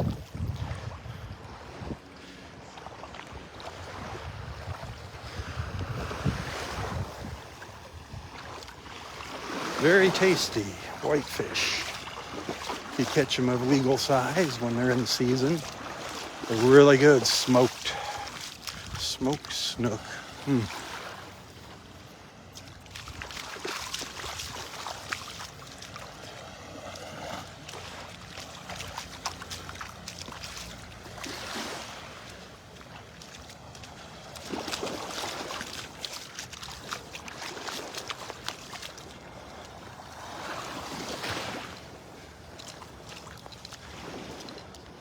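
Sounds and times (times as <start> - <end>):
small waves washing on sand: 0.0 - 45.0.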